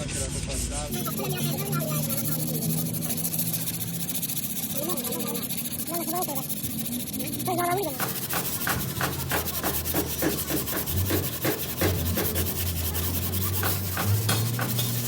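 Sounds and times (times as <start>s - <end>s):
hand sanding scraping strokes: 0.0s - 15.0s
steady low hum: 0.0s - 15.0s.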